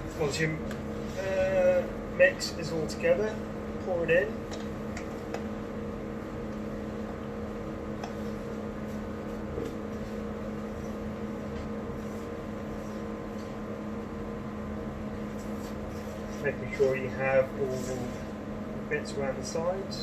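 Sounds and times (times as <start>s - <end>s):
appliance hum: 0.0s - 20.0s.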